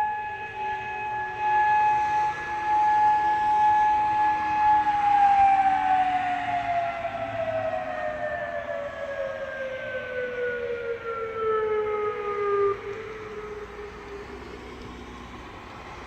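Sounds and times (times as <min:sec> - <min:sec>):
warning siren winding down: 0:00.0 - 0:15.6.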